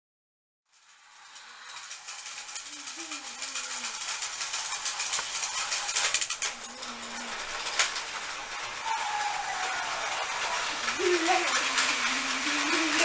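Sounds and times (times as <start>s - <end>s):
toy trains rattling on plastic track: 0.7s - 13.0s.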